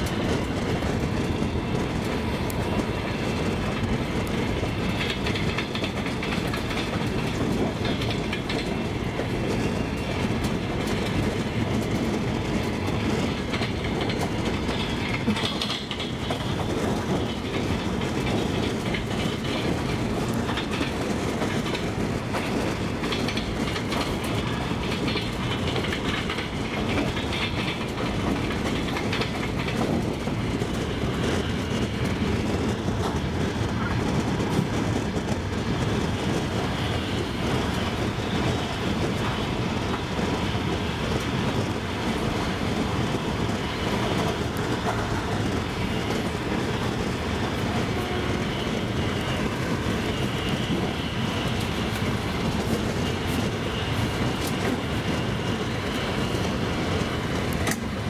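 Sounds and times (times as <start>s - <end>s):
train rumbling along track: 0.0s - 58.0s
wheels clacking over rail joints: 0.0s - 58.0s.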